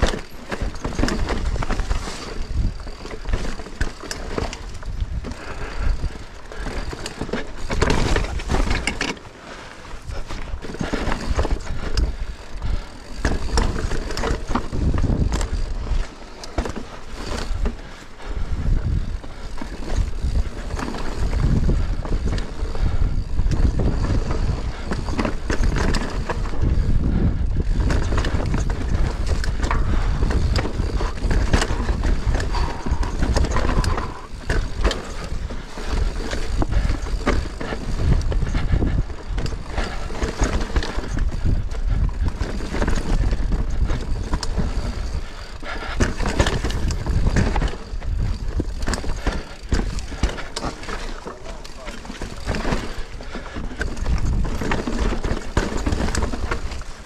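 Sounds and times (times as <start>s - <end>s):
wind rumble on microphone: 0.0s - 9.1s, 9.9s - 57.0s
bike clattering and rattling: 0.0s - 57.0s.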